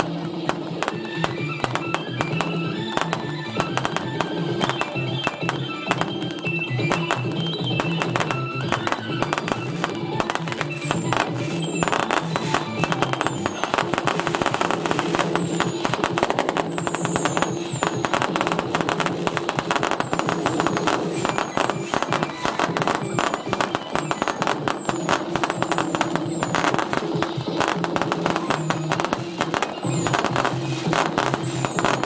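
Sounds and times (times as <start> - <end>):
falling firework whistles: 0.0 - 32.0
fireworks crackling and banging: 0.0 - 32.0.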